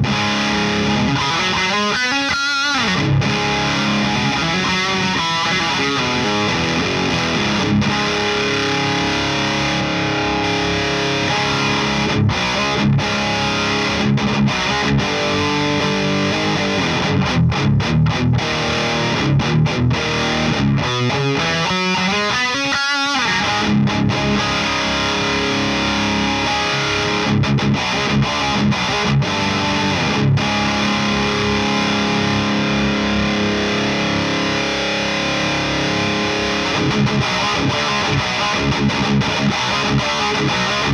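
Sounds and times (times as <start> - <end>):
distorted electric guitar riffing: 0.0 - 40.9.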